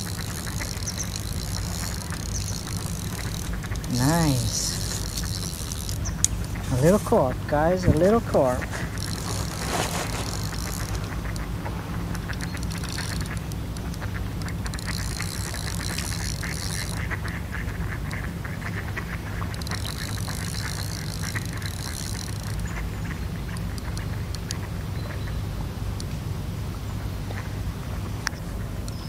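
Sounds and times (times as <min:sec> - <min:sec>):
fishing reel gear whirring: 0:00.0 - 0:24.6
reel line buzzing: 0:00.0 - 0:24.8.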